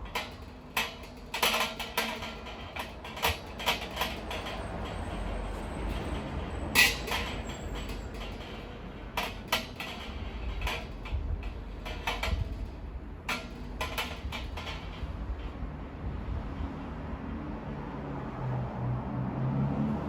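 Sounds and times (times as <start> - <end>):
metal fire pit parts clanking: 0.0 - 17.0.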